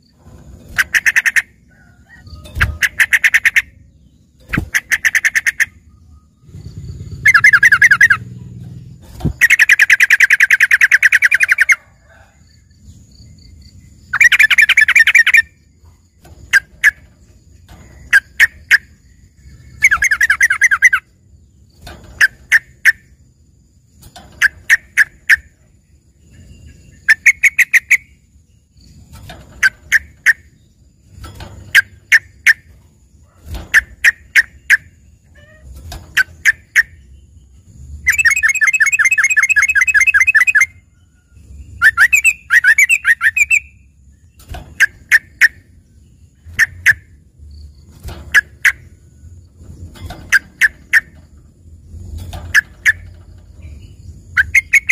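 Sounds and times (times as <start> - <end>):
bird singing sharp notes and trills: 0.0 - 54.9.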